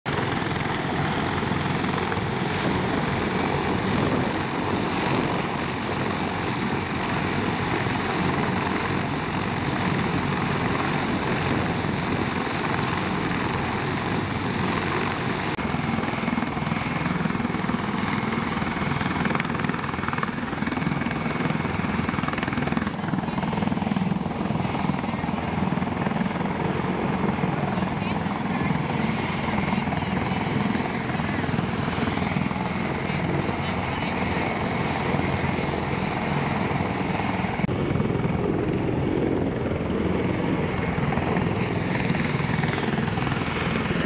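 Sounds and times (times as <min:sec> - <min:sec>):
helicopter rotor and turbine noise: 0:00.0 - 0:44.0.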